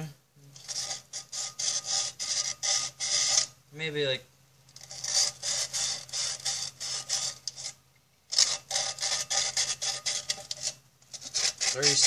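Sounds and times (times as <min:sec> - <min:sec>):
sandpaper scratching inside tin can: 0:00.6 - 0:03.5, 0:04.8 - 0:12.0.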